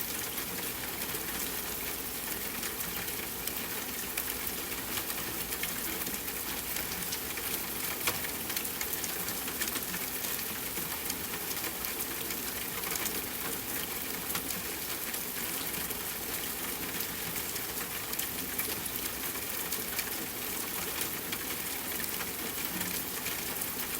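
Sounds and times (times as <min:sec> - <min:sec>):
rushing water with crackling ticks: 0:00.0 - 0:23.9.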